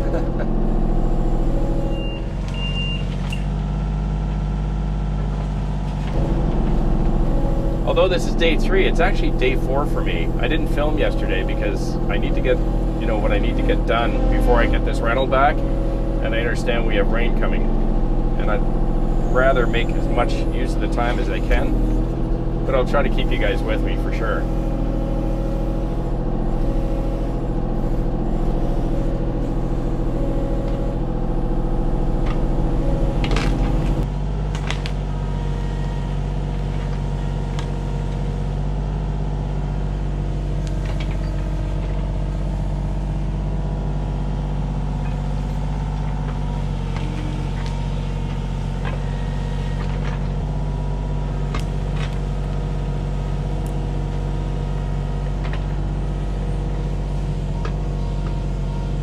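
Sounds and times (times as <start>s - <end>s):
diesel excavator engine running: 0.0s - 59.0s.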